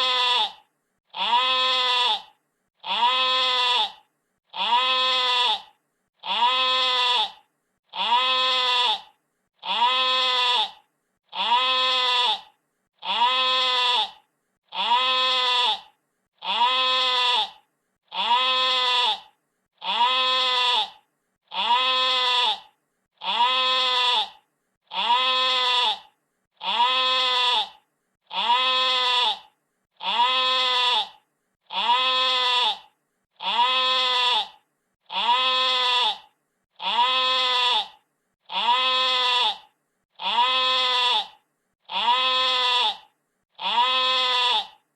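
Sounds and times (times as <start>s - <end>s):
sheep bleating: 0.0s - 44.8s.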